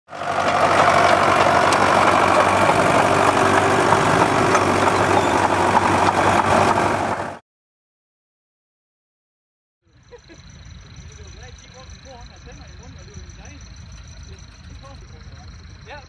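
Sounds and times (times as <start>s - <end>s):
tractor engine running: 0.1s - 7.4s, 10.1s - 16.0s.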